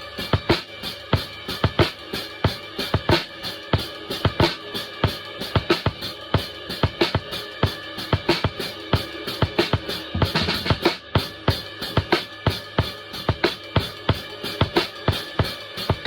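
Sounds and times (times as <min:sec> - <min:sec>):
drum kit groove: 0:00.0 - 0:16.0.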